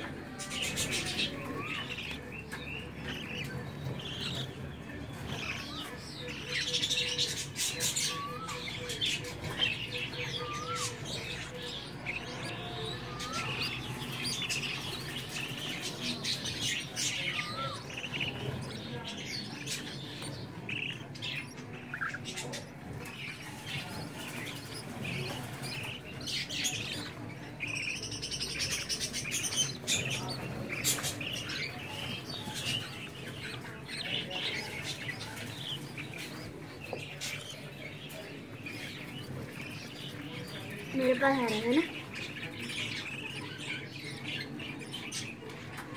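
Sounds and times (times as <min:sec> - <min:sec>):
bird chicks chirping: 0:00.0 - 0:45.9.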